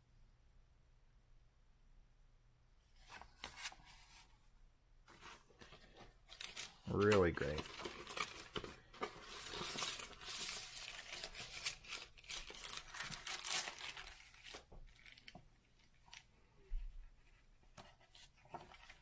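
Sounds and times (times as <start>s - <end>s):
paper rustling and crinkling: 3.0s - 4.3s, 5.1s - 19.0s.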